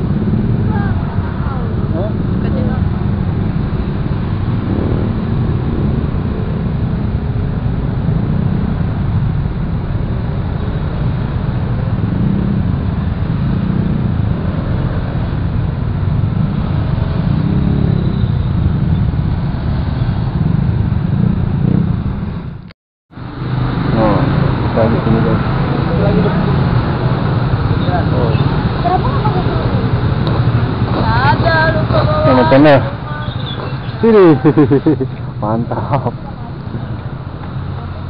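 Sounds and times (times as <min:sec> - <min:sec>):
motorcycle engine rumble: 0:00.0 - 0:38.0
road noise: 0:00.0 - 0:38.0.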